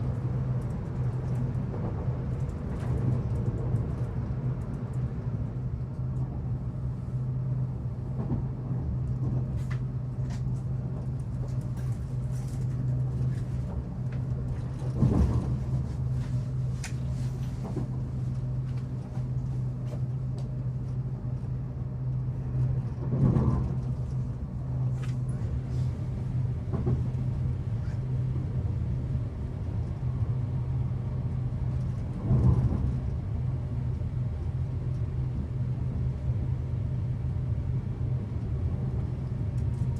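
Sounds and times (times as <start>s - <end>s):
train interior rumble and hum: 0.0s - 39.9s.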